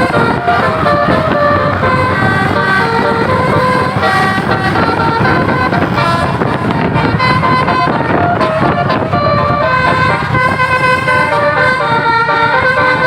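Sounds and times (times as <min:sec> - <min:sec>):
low engine rumble: 0:00.0 - 0:13.0
musical bus horn: 0:00.0 - 0:13.0.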